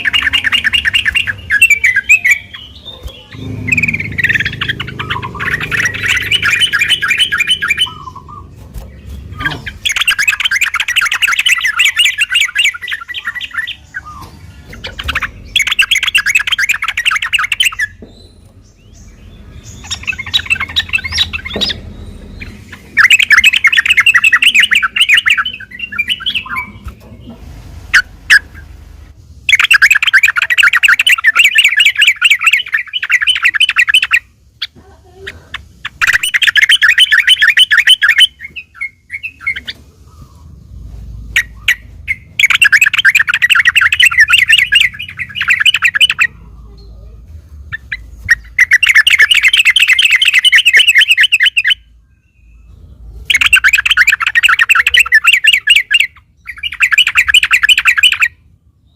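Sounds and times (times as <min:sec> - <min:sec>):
bird singing rapid chattering notes: 0:00.0 - 0:58.9.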